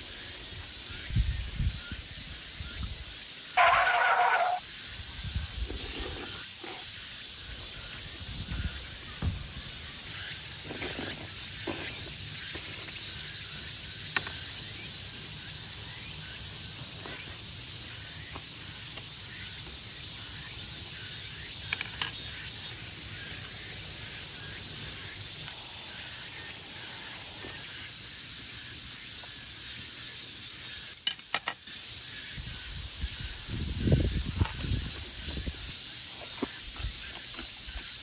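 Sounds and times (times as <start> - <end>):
steady high hiss: 0.0 - 38.0.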